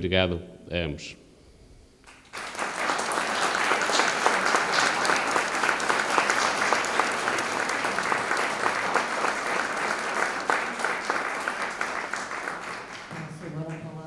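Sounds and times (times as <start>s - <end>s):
audience clapping: 2.0s - 14.0s.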